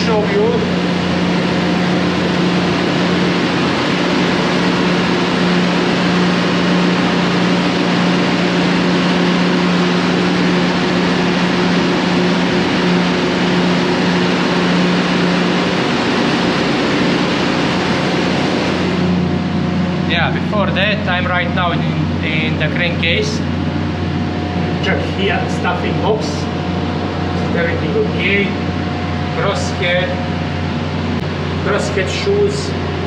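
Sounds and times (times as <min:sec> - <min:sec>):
diesel engine room din: 0:00.0 - 0:33.0
steady low hum: 0:00.0 - 0:33.0.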